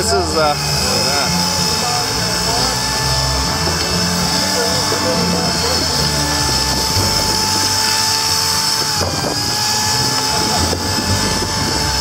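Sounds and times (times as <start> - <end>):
electric drill mixer whining: 0.0 - 12.0.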